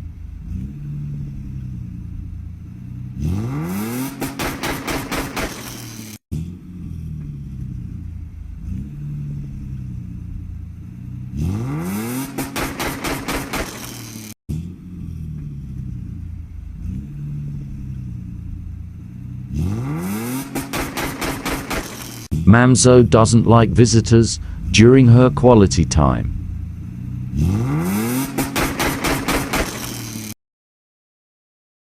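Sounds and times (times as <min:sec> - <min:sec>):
car engine revving and idling: 0:00.0 - 0:30.4.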